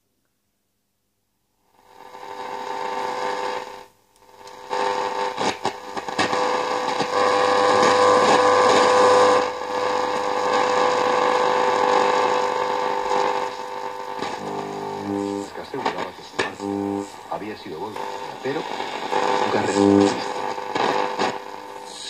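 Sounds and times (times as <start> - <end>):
radio crackles: 1.8 - 22.0
radio static hiss: 1.8 - 22.0.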